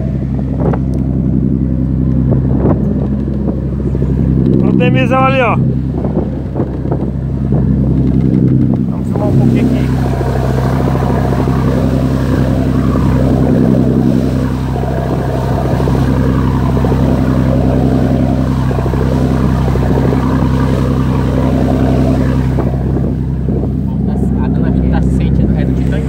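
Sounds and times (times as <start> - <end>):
boat engine droning: 0.0 - 26.0
water splashing along hull: 0.0 - 26.0.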